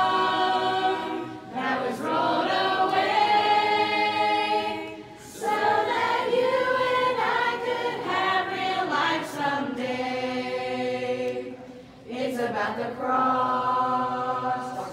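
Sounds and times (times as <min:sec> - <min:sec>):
choir singing a cappella: 0:00.0 - 0:14.9.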